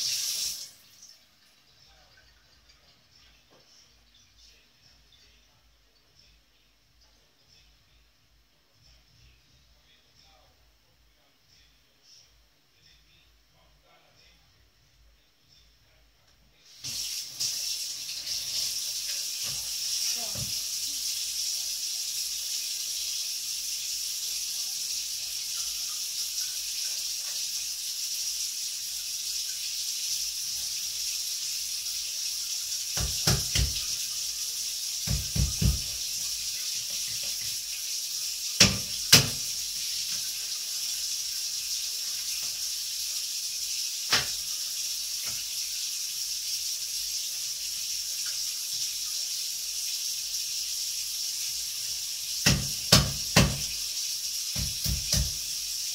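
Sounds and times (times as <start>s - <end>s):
steady hiss: 0.0s - 2.1s, 3.1s - 55.9s.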